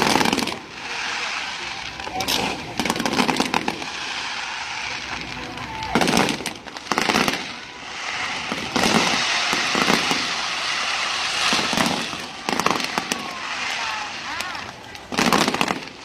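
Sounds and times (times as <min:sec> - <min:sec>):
fireworks bangs: 0:00.0 - 0:16.0
hissing crackle of rockets: 0:00.0 - 0:16.0.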